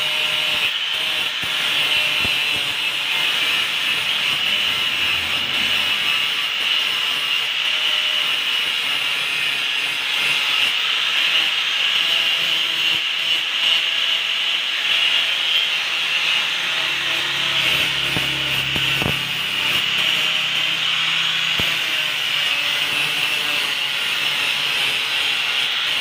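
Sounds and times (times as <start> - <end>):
angle grinder grinding steel: 0.0 - 26.0.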